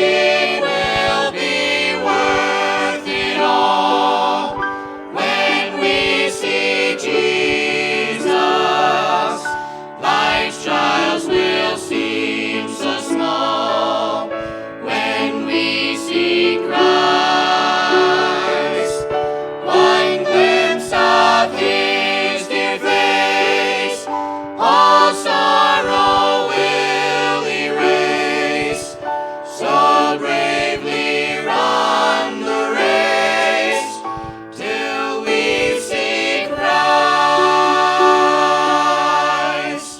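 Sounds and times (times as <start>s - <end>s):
group singing gospel in harmony: 0.0s - 39.9s.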